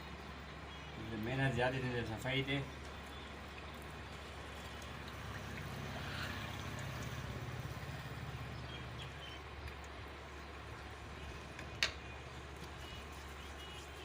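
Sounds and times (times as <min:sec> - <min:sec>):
engine pulsing hum: 0:02.7 - 0:14.0.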